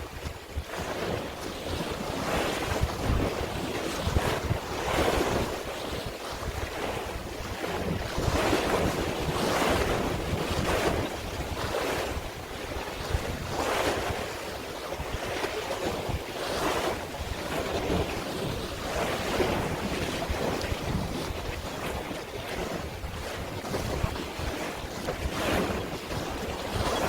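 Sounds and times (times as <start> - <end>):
waves washing: 0.0 - 27.0
wind buffeting microphone: 0.0 - 27.0.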